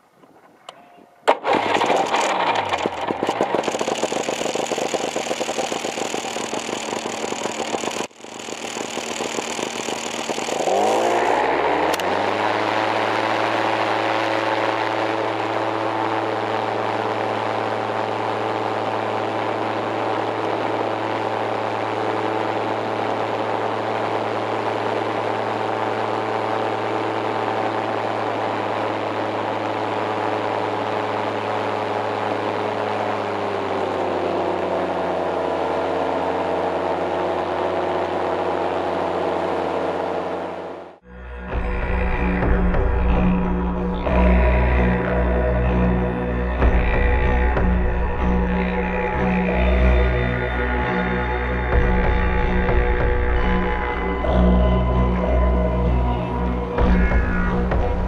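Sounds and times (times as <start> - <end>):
engine and propeller running: 0.0 - 58.0.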